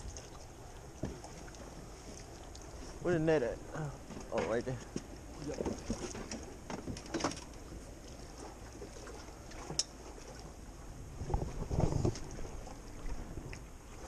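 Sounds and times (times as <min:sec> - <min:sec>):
water noise around boat: 0:00.0 - 0:14.0
wind: 0:00.0 - 0:14.0.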